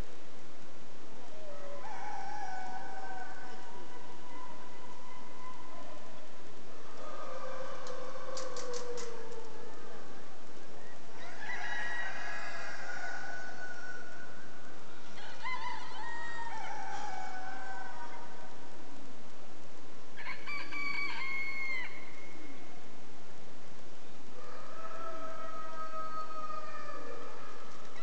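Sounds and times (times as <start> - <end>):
roosters crowing: 1.3 - 18.8, 20.2 - 22.8, 24.3 - 28.0.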